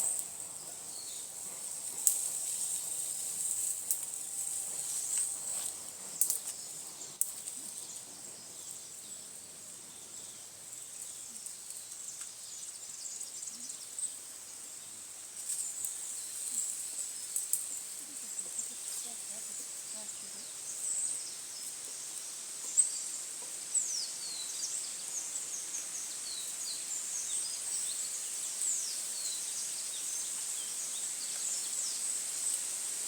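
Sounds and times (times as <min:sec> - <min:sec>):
insects droning high-pitched: 0:00.0 - 0:33.0.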